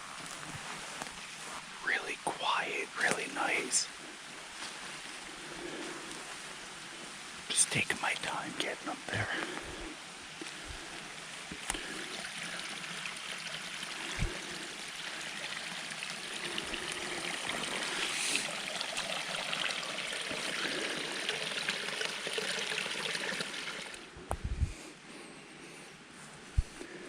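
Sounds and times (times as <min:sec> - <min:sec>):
mountain stream trickling: 0:00.0 - 0:24.1.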